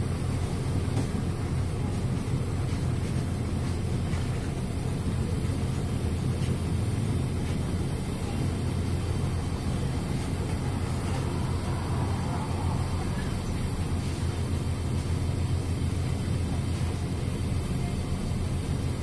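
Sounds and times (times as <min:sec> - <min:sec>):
bus engine drone: 0:00.0 - 0:19.0
road and body noise: 0:00.1 - 0:18.9.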